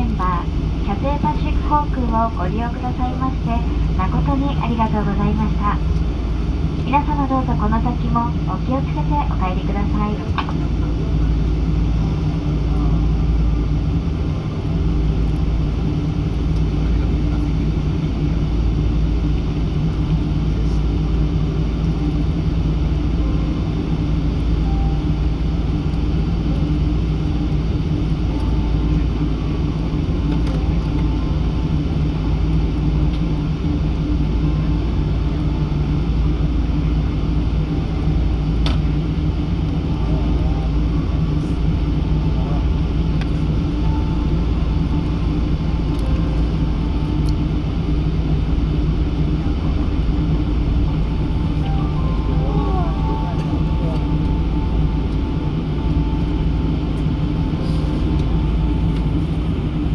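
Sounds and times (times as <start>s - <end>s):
airliner cabin rumble and hum: 0.0s - 59.9s.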